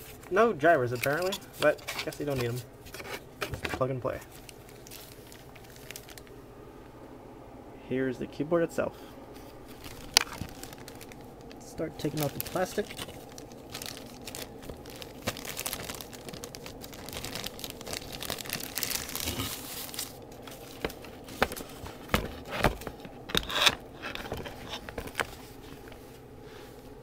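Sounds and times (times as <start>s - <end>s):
plastic packaging crinkling: 1.0s - 6.4s, 9.4s - 26.0s.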